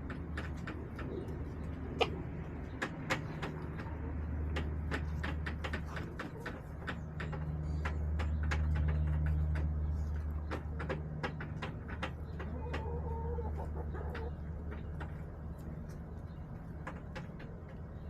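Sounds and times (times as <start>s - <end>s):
chickens pecking hard surface: 0.0s - 18.0s.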